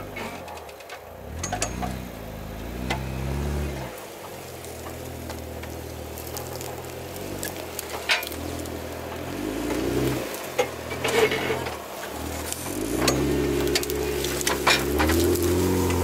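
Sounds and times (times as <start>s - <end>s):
tires crackling and knocking: 0.0s - 16.0s
engine revving at low speed: 1.2s - 16.0s.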